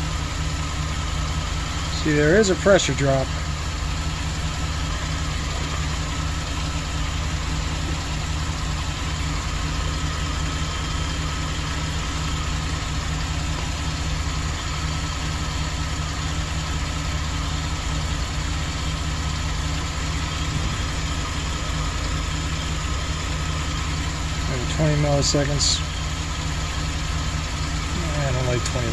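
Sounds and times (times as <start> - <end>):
van engine idling: 0.0 - 28.9.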